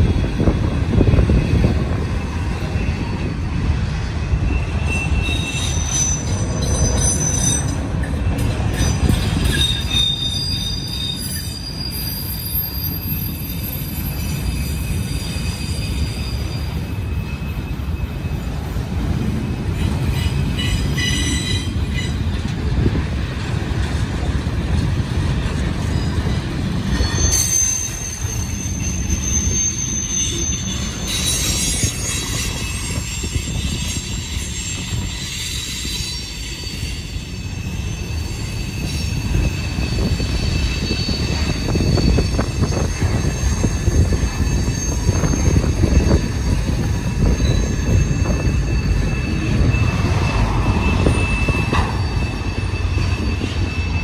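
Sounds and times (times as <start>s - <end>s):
freight train rumble: 0.0s - 54.0s
train wheels squealing: 0.0s - 54.0s.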